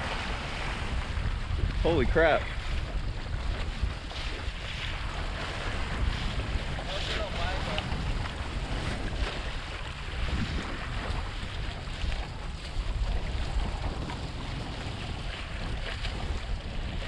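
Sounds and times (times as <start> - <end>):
water slapping against board: 0.0 - 17.0
wind buffeting microphone: 0.0 - 17.0.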